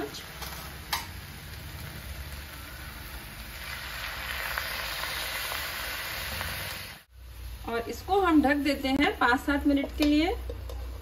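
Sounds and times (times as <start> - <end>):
water sizzling in hot pan: 0.0 - 9.5.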